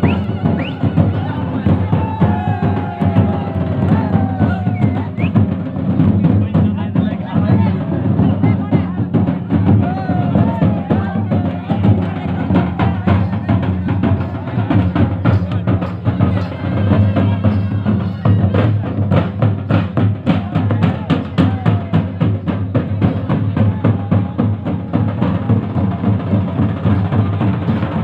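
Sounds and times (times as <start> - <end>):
fast folk drumming: 0.0 - 28.0.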